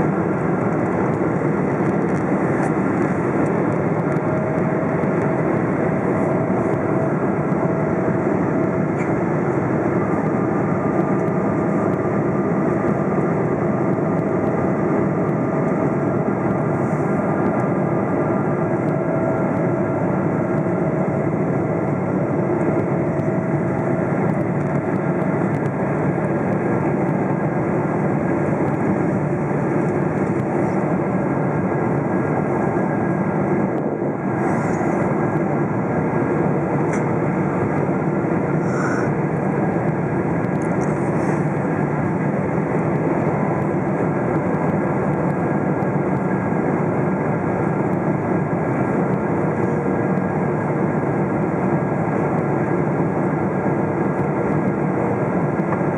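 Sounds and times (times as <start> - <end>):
airliner cabin roar: 0.0 - 55.9.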